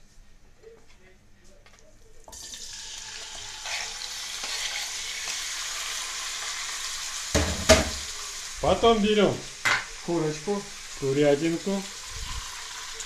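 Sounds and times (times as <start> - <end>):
meat sizzling in hot oil: 2.4 - 13.0.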